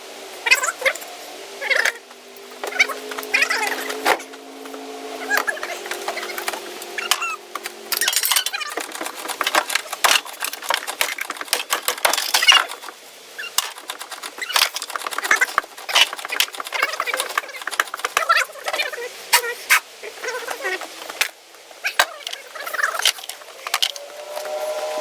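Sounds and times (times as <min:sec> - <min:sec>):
steady hum: 0:00.0 - 0:18.2, 0:22.6 - 0:25.0
hard parts clicking and squeaking: 0:01.7 - 0:24.6.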